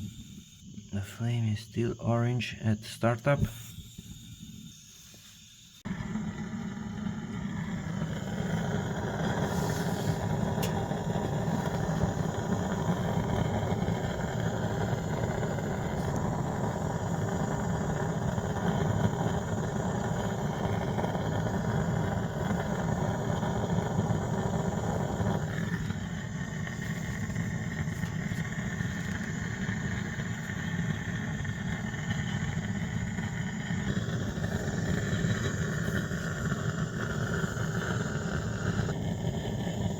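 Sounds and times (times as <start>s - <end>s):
gas burner low rumble: 5.8s - 39.9s.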